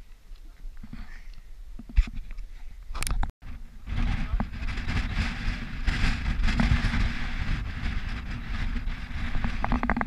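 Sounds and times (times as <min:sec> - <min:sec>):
wind buffeting microphone: 0:00.6 - 0:10.0.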